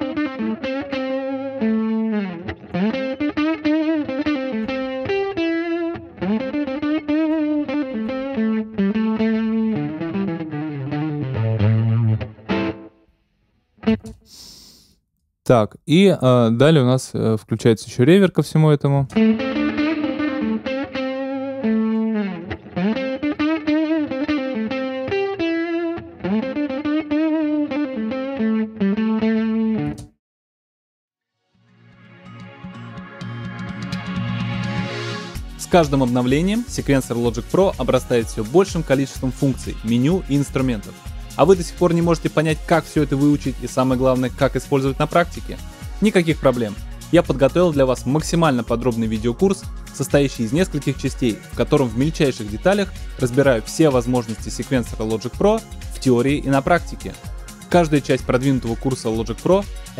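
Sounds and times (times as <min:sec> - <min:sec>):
electric guitar melody with effects: 0:00.0 - 0:14.3, 0:19.1 - 0:30.2, 0:31.8 - 0:59.9.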